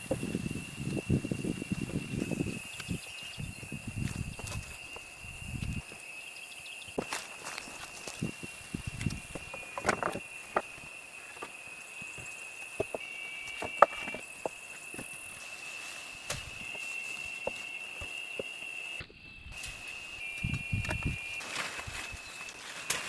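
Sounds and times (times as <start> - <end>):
high insect trill: 0.0 - 23.0.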